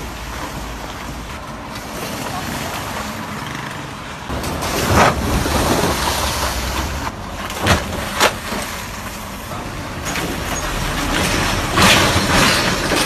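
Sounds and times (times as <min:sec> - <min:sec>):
tyres splashing through water: 0:00.0 - 0:13.0
wheels thumping in potholes: 0:00.0 - 0:13.0.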